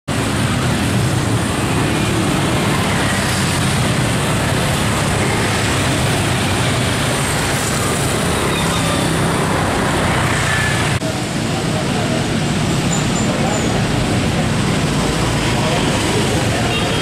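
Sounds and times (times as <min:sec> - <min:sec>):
car engines: 0:00.1 - 0:17.0
motorcycle engines: 0:00.1 - 0:17.0.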